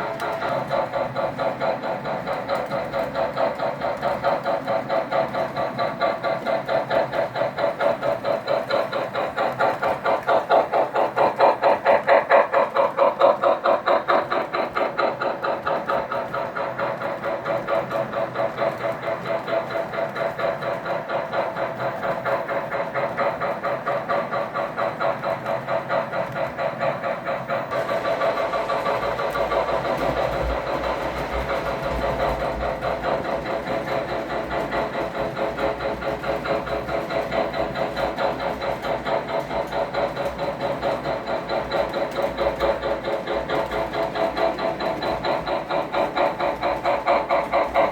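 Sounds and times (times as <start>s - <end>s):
model steam locomotive chuffing: 0.0s - 47.9s.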